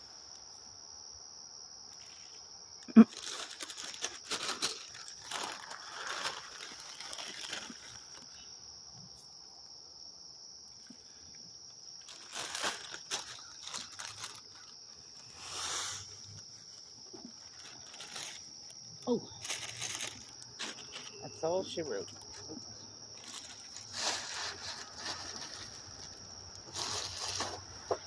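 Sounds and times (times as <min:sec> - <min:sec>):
crickets chirring: 0:00.0 - 0:28.0
rustling and crinkling: 0:01.8 - 0:09.8, 0:10.7 - 0:28.0.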